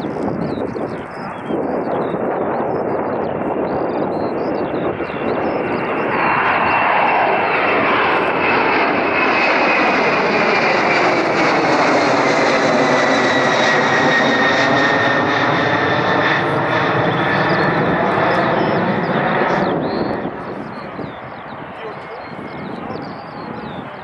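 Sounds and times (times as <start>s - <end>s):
high jet engine whine: 0.0s - 24.0s
jet engine roar: 0.0s - 24.0s.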